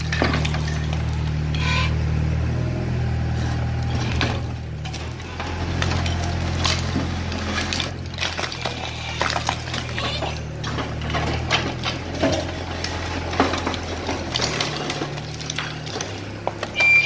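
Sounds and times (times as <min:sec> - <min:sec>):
knocks and clatters: 0:00.0 - 0:01.3, 0:03.8 - 0:17.0
excavator diesel engine running: 0:00.0 - 0:17.0.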